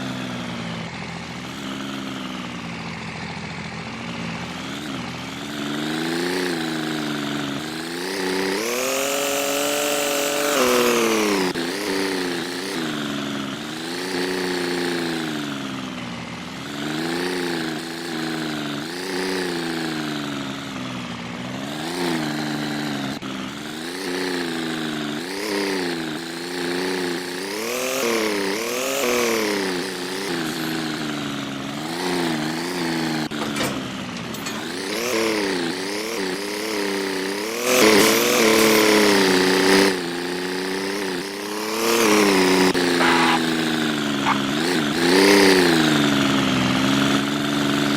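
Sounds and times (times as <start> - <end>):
engine revving: 0.0 - 47.9.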